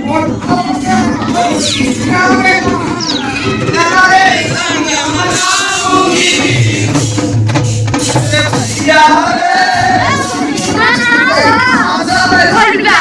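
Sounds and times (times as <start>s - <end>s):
people singing folk song: 0.0s - 13.0s.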